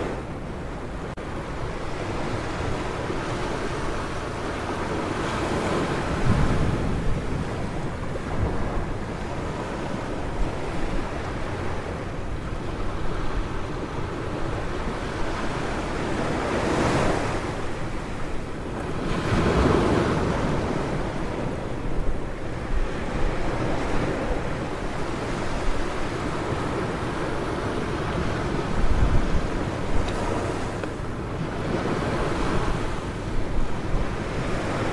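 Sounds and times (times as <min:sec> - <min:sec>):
ocean surf washing onto beach: 0:00.0 - 0:34.9
wind on microphone: 0:00.0 - 0:34.9.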